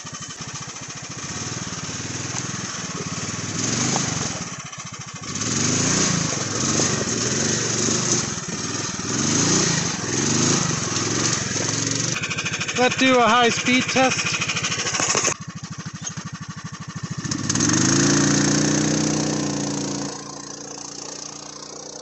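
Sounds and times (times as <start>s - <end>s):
quad engine revving under load: 0.0s - 22.0s.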